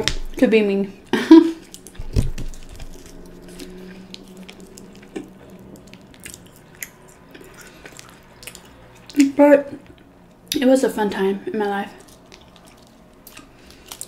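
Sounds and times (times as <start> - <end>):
soft steady hum: 0.0 - 14.0
wet squishes of sour cream: 1.5 - 10.7, 11.6 - 14.0.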